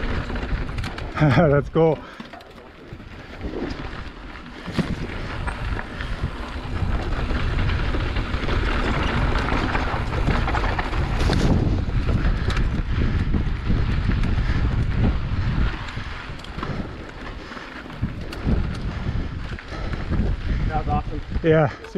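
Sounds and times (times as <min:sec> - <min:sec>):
bike tyres rolling on dirt: 0:00.0 - 0:21.9
wind buffeting microphone: 0:00.0 - 0:21.9.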